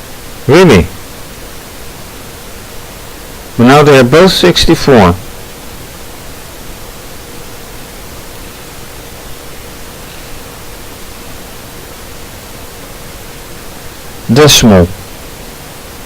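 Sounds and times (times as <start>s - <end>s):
faint steady tone: 0.0s - 16.0s
steady background hiss: 0.0s - 16.0s.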